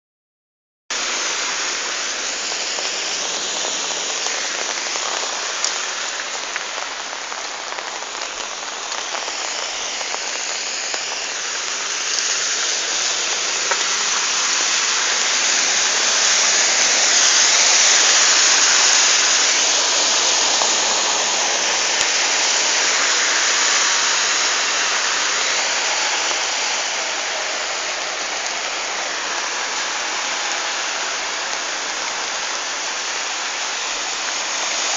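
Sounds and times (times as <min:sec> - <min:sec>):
heavy rain on street: 0:00.9 - 0:34.9.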